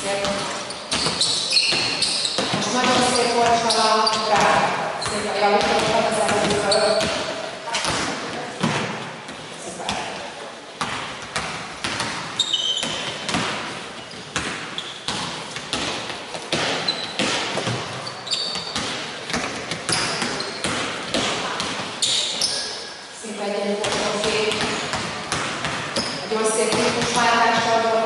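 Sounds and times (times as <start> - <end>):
shoes squeaking on floor: 0.0 - 7.9, 10.8 - 23.1, 23.9 - 27.9
basketballs bouncing on hardwood: 0.0 - 10.2, 10.8 - 22.0, 23.8 - 27.9.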